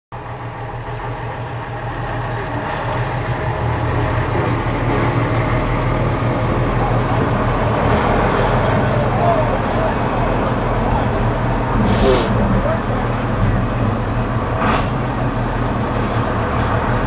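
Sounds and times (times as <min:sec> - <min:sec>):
diesel tractor engine idling: 0:00.1 - 0:17.0.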